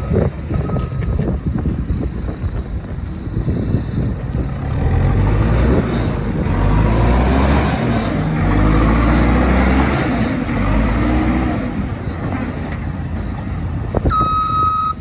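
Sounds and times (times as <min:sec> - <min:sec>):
diesel engine pulling: 0:00.0 - 0:15.0.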